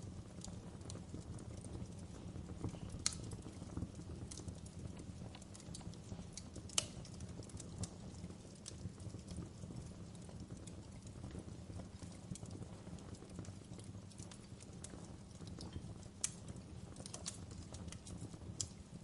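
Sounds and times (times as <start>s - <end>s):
burning logs rumbling: 0.0s - 19.0s
fire snapping and popping: 0.0s - 19.0s.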